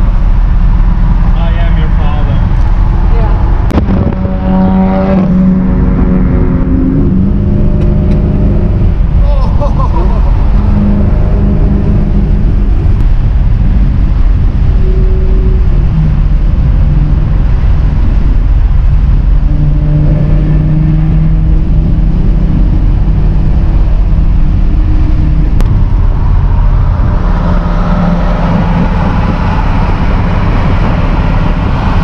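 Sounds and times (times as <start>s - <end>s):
car engine droning: 0.0s - 32.0s
road noise: 0.0s - 32.0s
wind noise: 0.0s - 32.0s.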